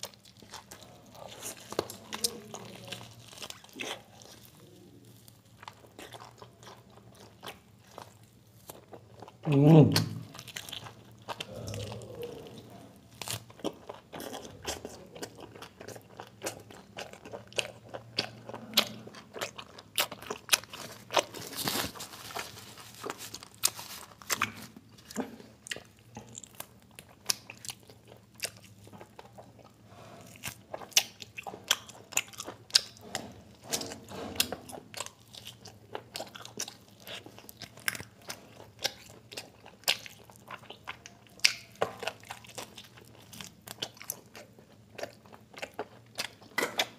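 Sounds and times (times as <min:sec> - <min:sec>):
person chewing and biting: 0:00.0 - 0:46.9.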